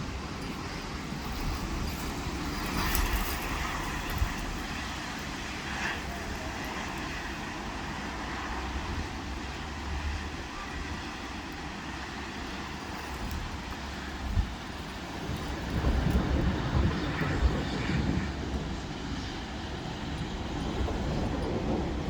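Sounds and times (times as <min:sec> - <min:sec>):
heavy rain hissing: 0:00.0 - 0:22.0
street traffic rumble: 0:00.0 - 0:22.0.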